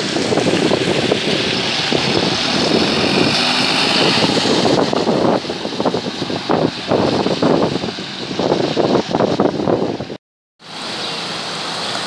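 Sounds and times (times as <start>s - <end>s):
bus engine running: 0.0s - 12.0s
tyres hissing on wet road: 0.0s - 12.0s.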